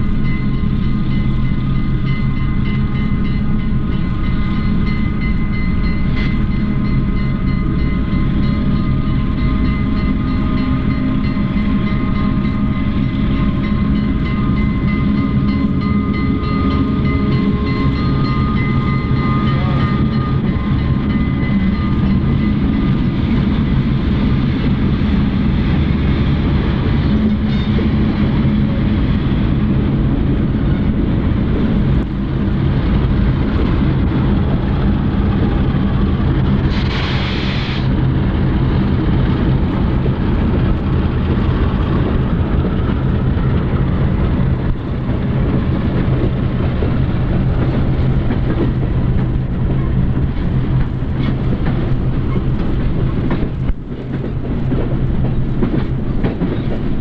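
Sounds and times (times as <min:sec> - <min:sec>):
diesel locomotive engine drone: 0:00.0 - 0:57.0
train noise: 0:00.0 - 0:57.0.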